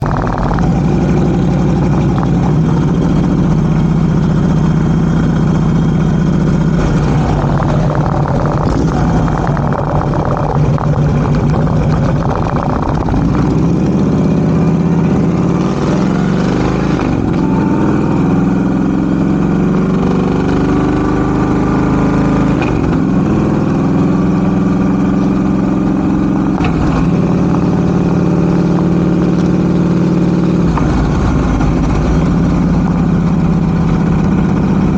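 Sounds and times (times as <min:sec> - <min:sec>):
motorcycle engine idling and pulling away: 0:00.0 - 0:34.9.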